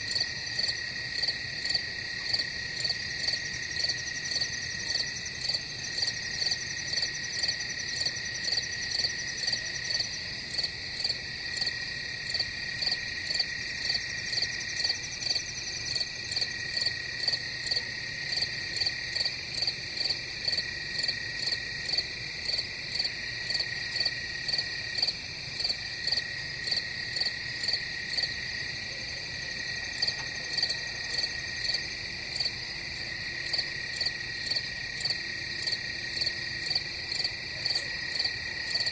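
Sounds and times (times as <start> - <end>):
crickets chirping: 0.0 - 38.9
high insect trill: 0.0 - 38.9.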